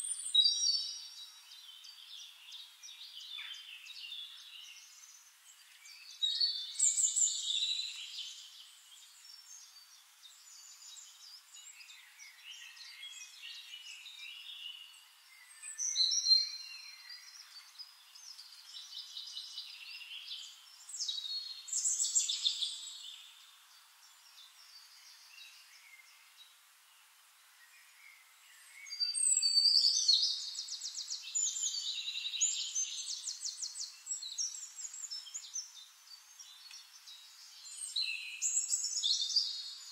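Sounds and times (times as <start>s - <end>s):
faint bird chirping: 0.0s - 39.9s
songbirds singing: 0.0s - 39.9s.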